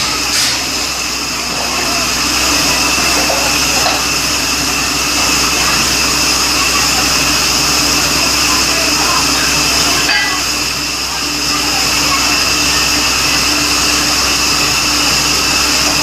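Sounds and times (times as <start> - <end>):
drilling rig machine noise: 0.0 - 16.0.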